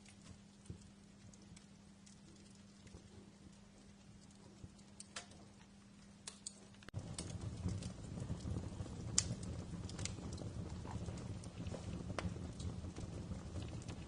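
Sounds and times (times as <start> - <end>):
low rumble of burning: 0.0 - 14.0
wood fire crackling: 0.0 - 14.0.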